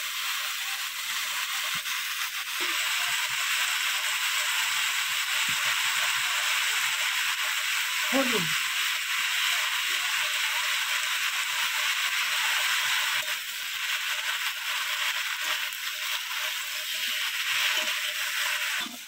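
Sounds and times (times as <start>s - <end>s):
oil sizzling in a pan: 0.0s - 19.0s.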